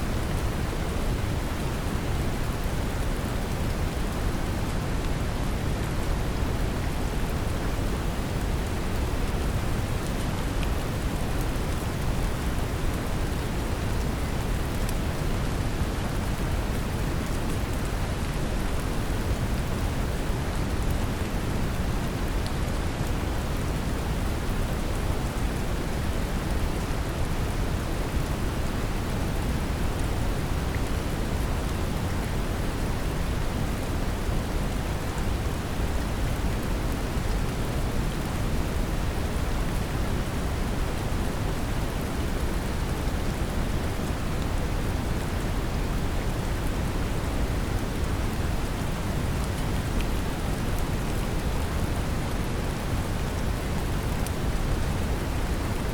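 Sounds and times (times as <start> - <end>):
gentle rain hiss: 0.0 - 55.9.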